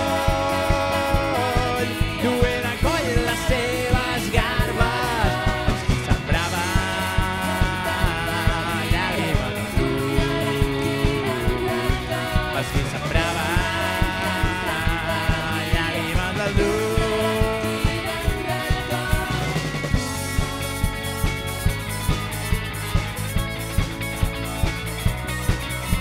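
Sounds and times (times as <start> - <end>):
drum kit beat: 0.0 - 26.0
electric guitar: 0.0 - 26.0
keyboard: 0.0 - 26.0.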